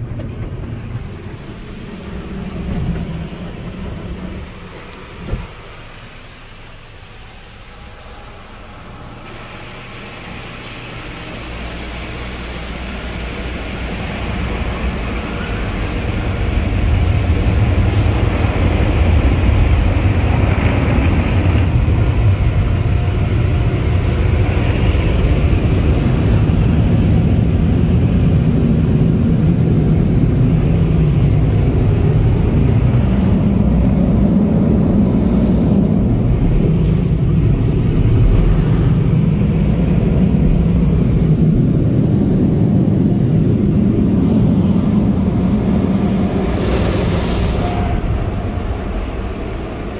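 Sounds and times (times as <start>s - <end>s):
car wash equipment rumbling: 0.0s - 49.9s.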